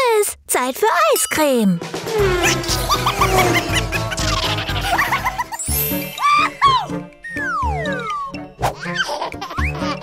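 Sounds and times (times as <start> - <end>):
playful background music: 0.9 - 10.0.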